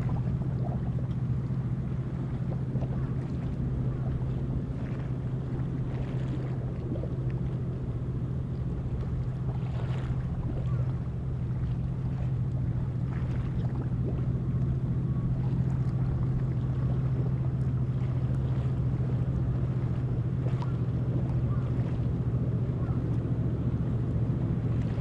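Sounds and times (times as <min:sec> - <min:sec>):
low engine drone: 0:00.0 - 0:25.0
rushing water: 0:00.0 - 0:25.0.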